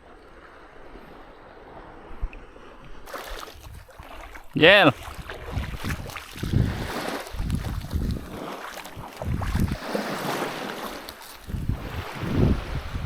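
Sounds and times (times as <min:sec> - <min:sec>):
wind on microphone: 0:00.0 - 0:13.0
water sloshing and splashing: 0:00.3 - 0:13.0.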